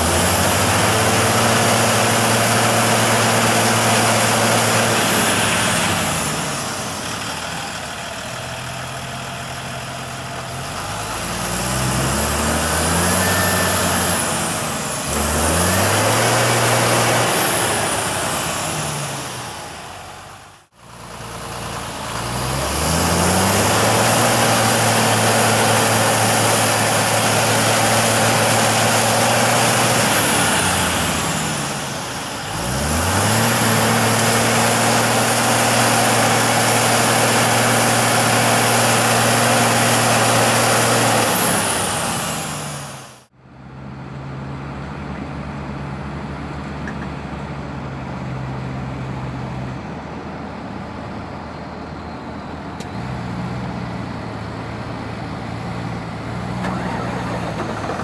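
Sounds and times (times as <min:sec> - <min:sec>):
tractor diesel engines revving hard: 0:00.0 - 0:58.0
tractor diesel running steadily: 0:00.0 - 0:58.0.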